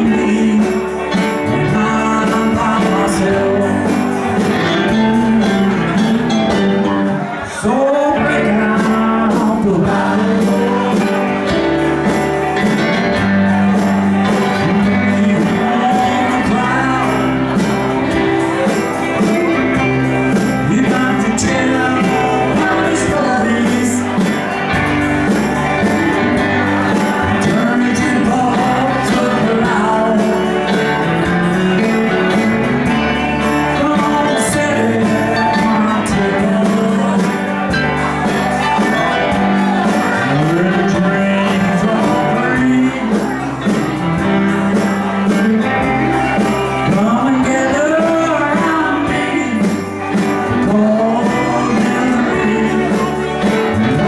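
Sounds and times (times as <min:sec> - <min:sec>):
bass guitar: 0:00.0 - 0:54.0
drums: 0:00.0 - 0:54.0
electric guitar: 0:00.0 - 0:54.0
man singing: 0:00.0 - 0:54.0.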